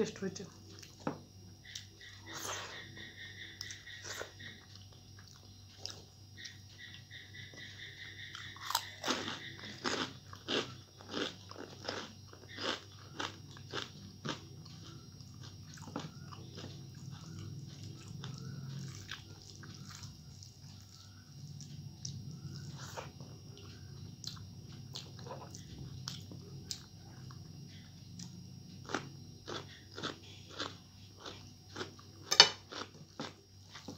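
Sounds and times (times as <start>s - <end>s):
steady low hum: 0.0s - 33.9s
person chewing crunchy food: 0.7s - 33.9s.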